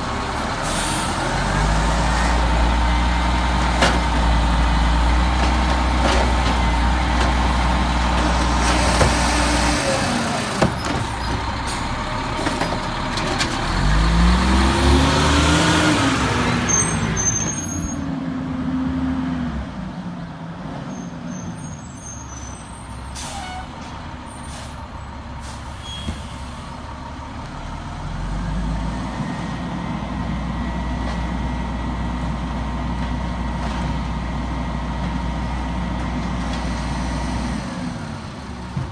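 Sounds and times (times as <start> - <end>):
diesel truck engine idling and revving: 0.0 - 38.9.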